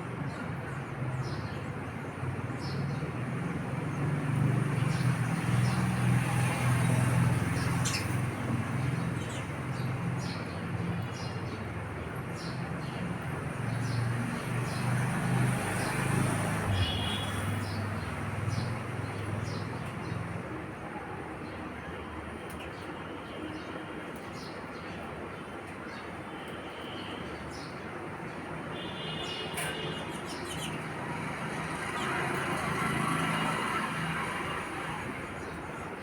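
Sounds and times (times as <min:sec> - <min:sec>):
sparrows chirping: 0:00.0 - 0:20.5, 0:21.4 - 0:36.0
road traffic rumble: 0:00.0 - 0:36.0.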